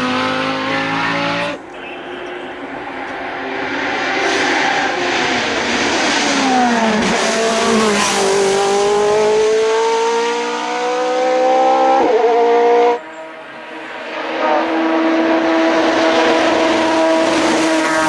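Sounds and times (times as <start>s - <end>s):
gear change: 0.0s - 18.0s
race car engine passing by: 0.0s - 18.0s.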